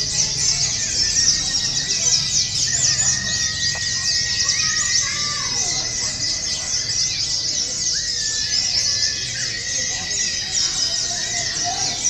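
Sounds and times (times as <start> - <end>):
faint background voices: 0.0 - 12.0
lower whistled bird notes: 0.0 - 12.0
songbirds chirping and twittering: 0.0 - 12.0.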